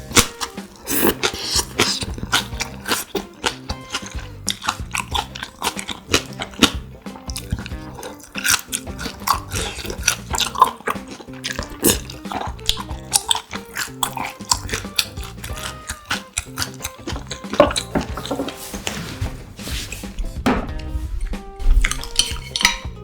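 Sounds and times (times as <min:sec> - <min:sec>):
close chewing with clicks: 0:00.0 - 0:18.6, 0:21.8 - 0:23.0.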